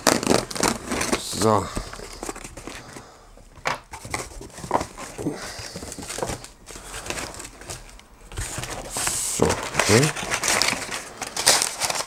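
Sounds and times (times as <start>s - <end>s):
packing paper rustling: 0.0s - 3.2s, 3.8s - 12.0s.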